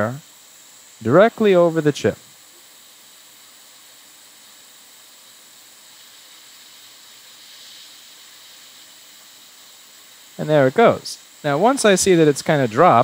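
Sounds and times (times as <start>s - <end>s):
hot air blower hissing: 0.0s - 13.0s.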